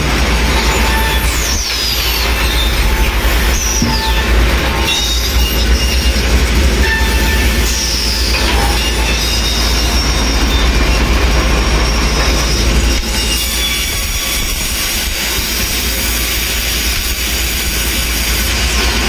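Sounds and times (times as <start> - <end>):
sawmill machinery noise: 0.0 - 19.0.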